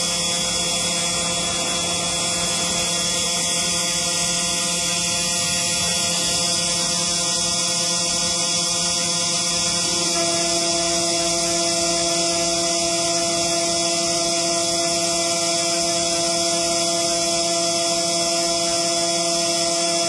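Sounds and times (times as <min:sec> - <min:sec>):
engraving machine humming: 0:00.0 - 0:20.0.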